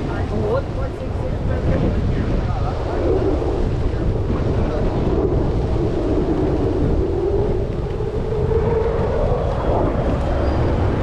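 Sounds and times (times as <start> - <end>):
jet engine rumbling: 0.0 - 11.0.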